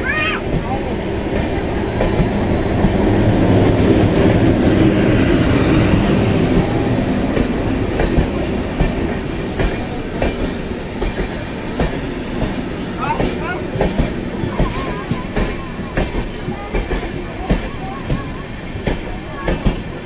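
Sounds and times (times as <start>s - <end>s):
rumble of wheels on rails: 0.0s - 20.0s.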